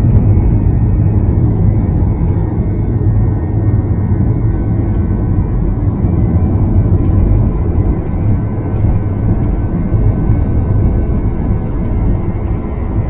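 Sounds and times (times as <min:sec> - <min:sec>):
faint whining tones: 0:00.0 - 0:13.0
jet engine cabin rumble: 0:00.0 - 0:13.0.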